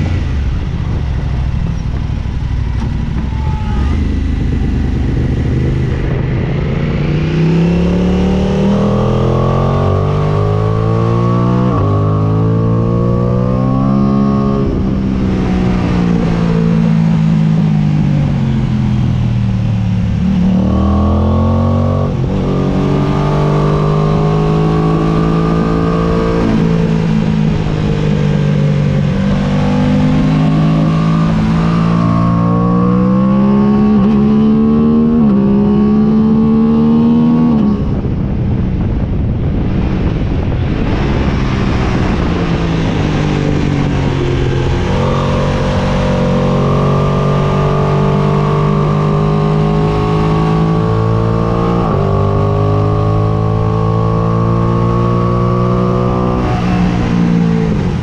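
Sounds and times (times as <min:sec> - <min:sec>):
motorcycle engine accelerating: 0:00.0 - 0:58.0
wind rush: 0:00.0 - 0:58.0.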